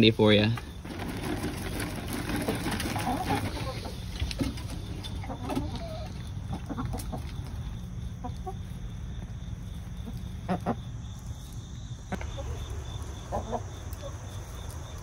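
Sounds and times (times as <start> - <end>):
hens clucking softly: 0.8 - 15.0
low steady rumble: 2.8 - 15.0.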